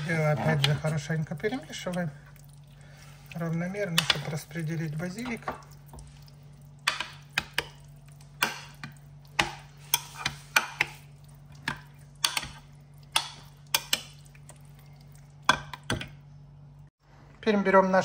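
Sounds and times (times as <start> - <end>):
faint steady hum: 0.0 - 17.5.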